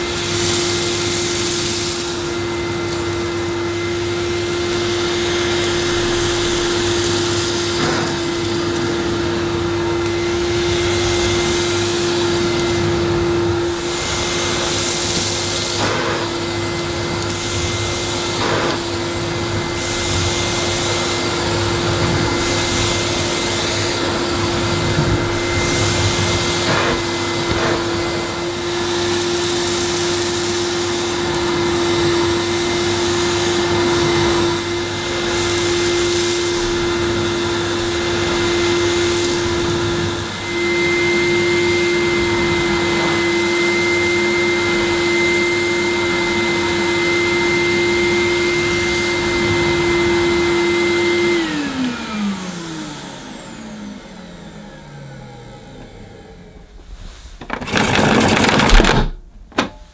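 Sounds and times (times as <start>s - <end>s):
vacuum cleaner whining on carpet: 0.0s - 59.7s.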